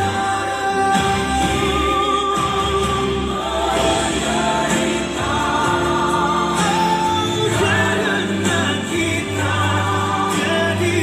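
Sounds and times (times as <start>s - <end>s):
instrumental accompaniment: 0.0s - 11.0s
voices singing worship song: 0.0s - 11.0s.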